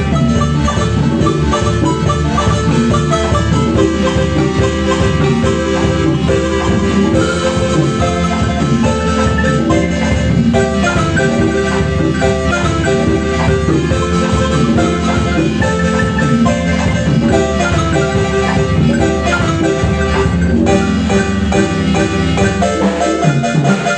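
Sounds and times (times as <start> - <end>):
marimba music: 0.0 - 23.9.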